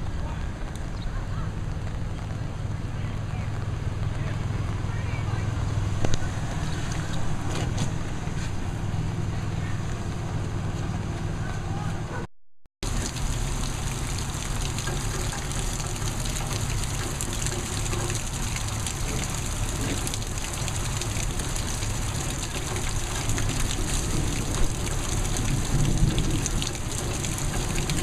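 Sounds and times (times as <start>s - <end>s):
heavy rain: 0.0s - 10.7s, 12.8s - 28.0s
running water: 0.0s - 10.7s, 12.8s - 28.0s.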